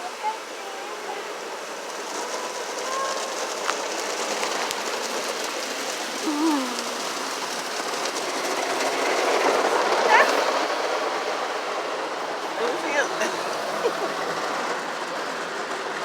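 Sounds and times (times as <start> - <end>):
water jets drumming on car: 0.0 - 6.2, 6.8 - 16.0.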